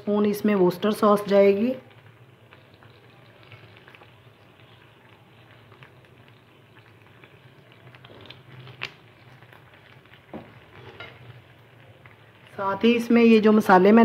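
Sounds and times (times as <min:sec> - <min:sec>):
sauce sizzling in a frying pan: 0:00.0 - 0:14.0.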